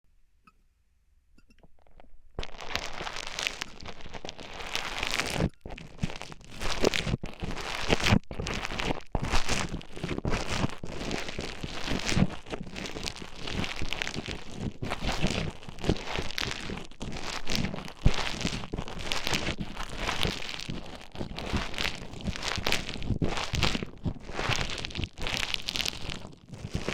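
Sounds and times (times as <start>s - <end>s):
foam beads crackling and crunching: 1.7s - 26.9s.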